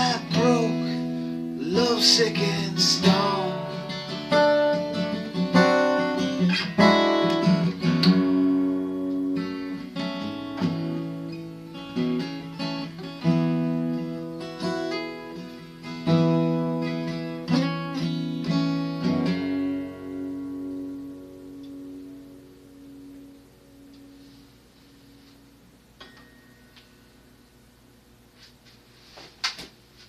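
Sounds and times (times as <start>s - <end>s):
acoustic guitar strumming chords: 0.0s - 27.4s.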